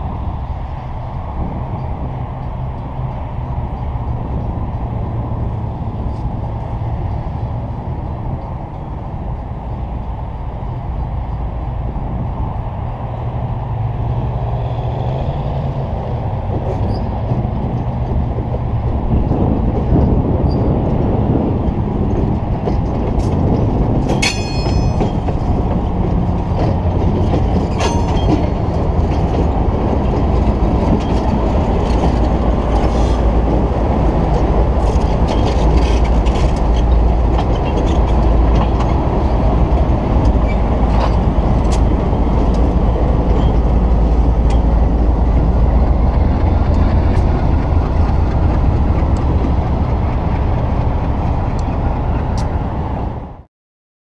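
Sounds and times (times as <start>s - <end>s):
diesel locomotive engine drone: 0.0s - 53.5s.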